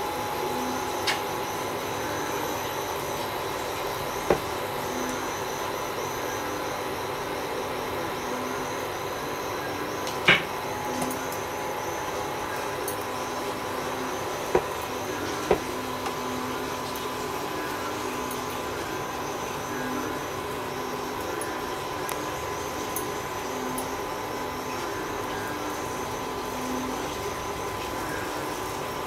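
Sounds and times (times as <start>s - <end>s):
induction cooker whirring: 0.0s - 29.0s.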